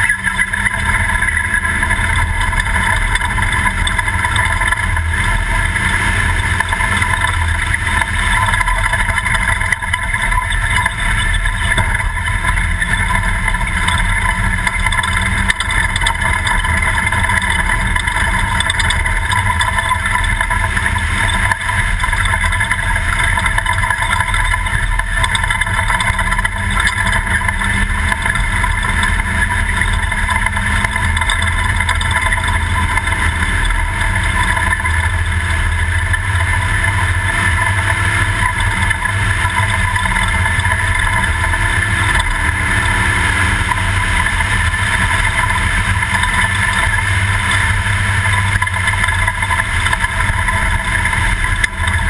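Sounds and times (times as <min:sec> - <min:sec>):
truck engine drone: 0:00.0 - 0:52.0.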